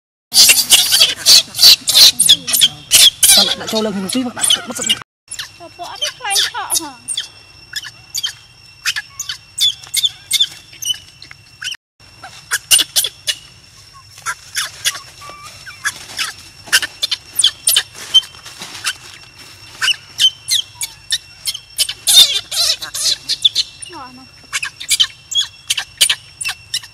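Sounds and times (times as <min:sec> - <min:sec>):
baby monkey crying in squeaks: 0:00.4 - 0:19.0, 0:19.8 - 0:26.9.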